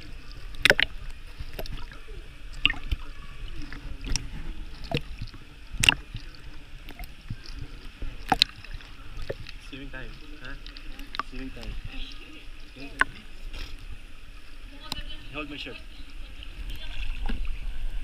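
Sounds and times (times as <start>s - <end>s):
low rumble of moving water: 0.0s - 18.0s
water splashing in a pool: 0.0s - 18.0s.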